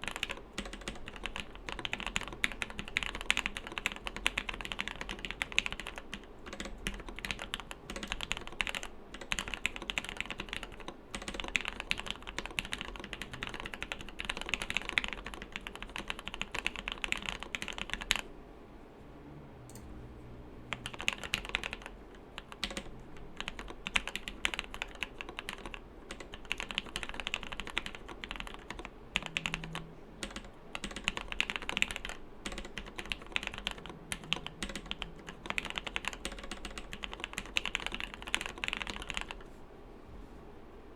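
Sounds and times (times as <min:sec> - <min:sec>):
mechanical keyboard typing: 0:00.0 - 0:18.2, 0:20.7 - 0:39.4.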